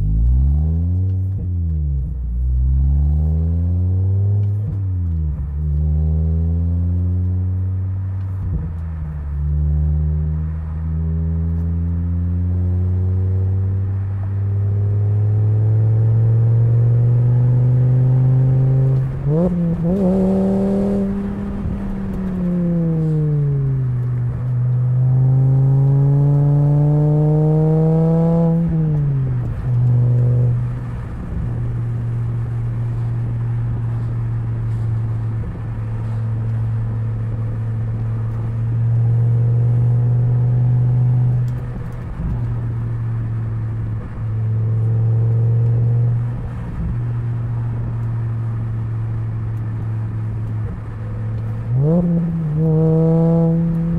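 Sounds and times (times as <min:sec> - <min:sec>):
car engine revving while driving: 0:00.0 - 0:53.9.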